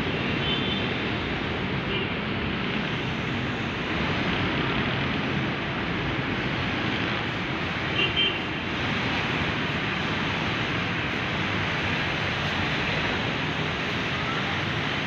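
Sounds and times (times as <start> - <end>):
motorcycles passing: 0.0 - 15.0
street traffic: 0.0 - 15.0.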